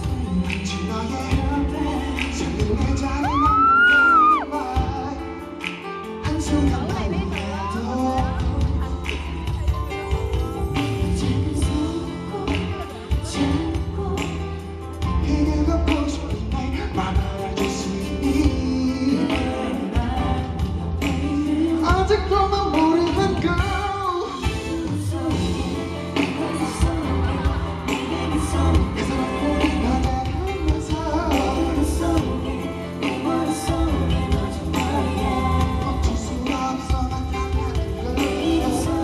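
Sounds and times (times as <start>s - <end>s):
amplified pop music with heavy bass: 0.0s - 39.0s
person singing: 0.0s - 39.0s.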